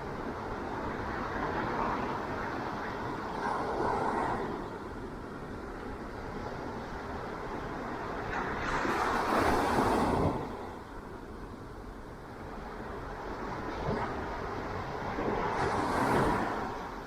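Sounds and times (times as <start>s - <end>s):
ocean waves washing onto beach: 0.0s - 17.0s.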